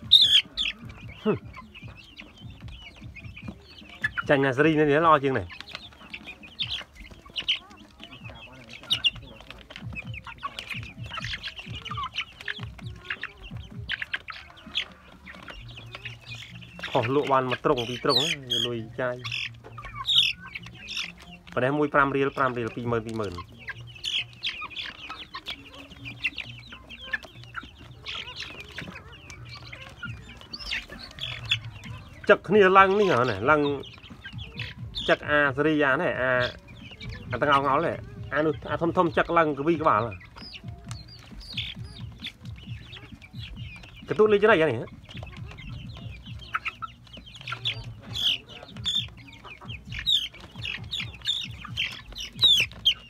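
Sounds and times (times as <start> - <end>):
beaks pecking plastic tray: 0.0 - 53.0
chicks peeping and clucking: 0.0 - 53.0.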